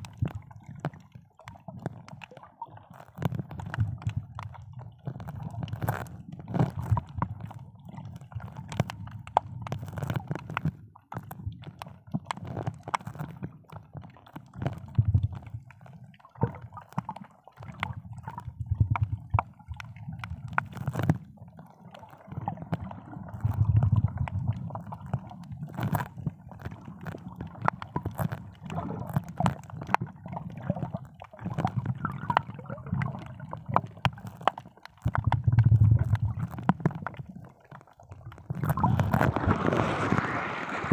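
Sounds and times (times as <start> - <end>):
short clicks and crackles: 0.0 - 21.3, 21.9 - 40.9
low underwater rumble: 0.0 - 40.9.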